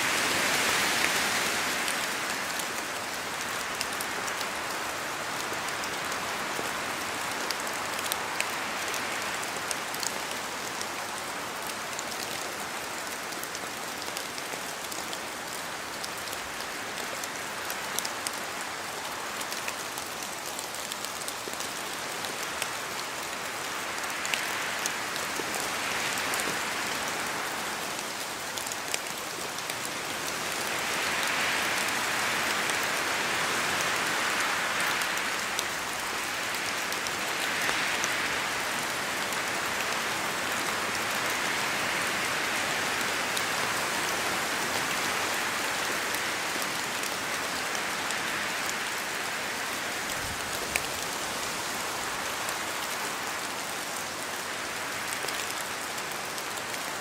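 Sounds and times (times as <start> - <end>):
steady rain falling: 0.0 - 57.0
wind rushing through trees: 0.0 - 57.0.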